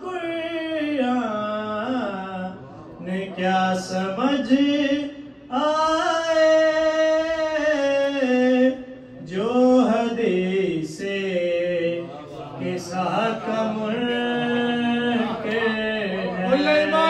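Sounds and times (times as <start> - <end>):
man chanting: 0.0 - 17.0.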